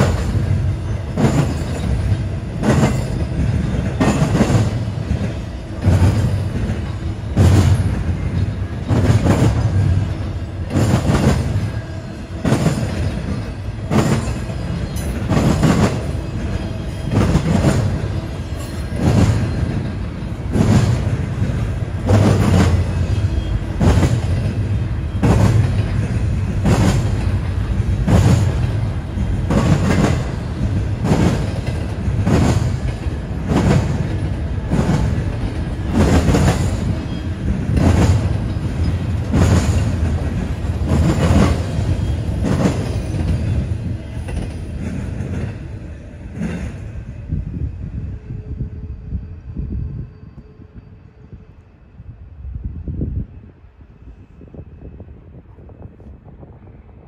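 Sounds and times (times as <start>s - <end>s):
train wheels clacking on rails: 0.0s - 47.0s
freight train low rumble: 0.0s - 57.0s.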